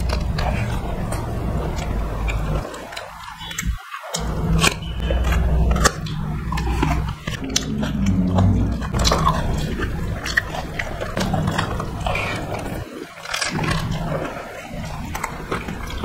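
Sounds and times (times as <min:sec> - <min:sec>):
biting and chewing: 0:00.0 - 0:16.0.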